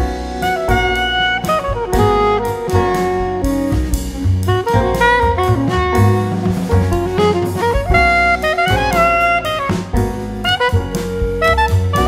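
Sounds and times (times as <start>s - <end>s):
drum kit: 0.0s - 12.0s
saxophone-led jazz tune: 0.0s - 12.0s.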